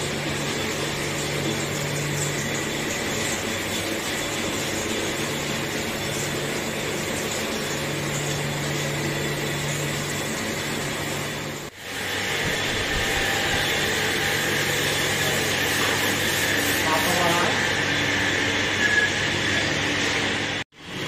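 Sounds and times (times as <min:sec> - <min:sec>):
workshop machinery drone: 0:00.0 - 0:21.0.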